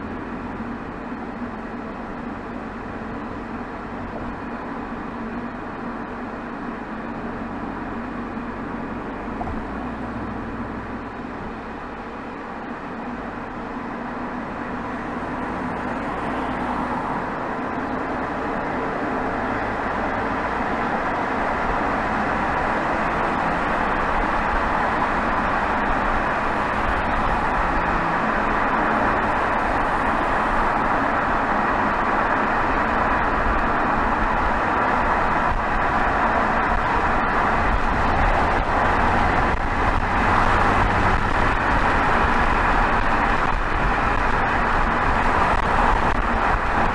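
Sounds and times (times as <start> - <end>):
car exhaust under way: 0.0 - 46.9
road and tyre noise: 0.0 - 46.9.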